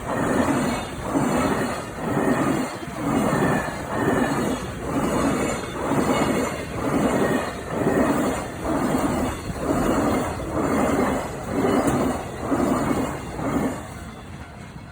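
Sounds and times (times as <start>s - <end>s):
train wheels clattering over rails: 0.0s - 14.9s.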